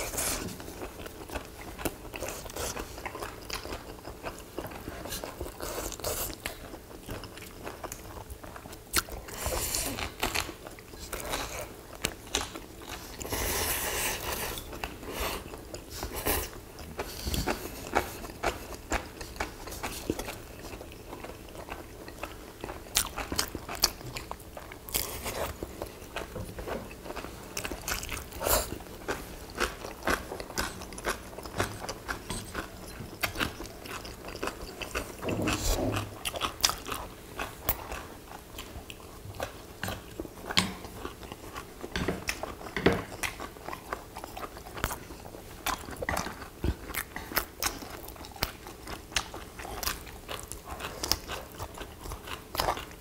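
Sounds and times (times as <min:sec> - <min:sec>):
people chewing and crunching food: 0:00.0 - 0:53.0.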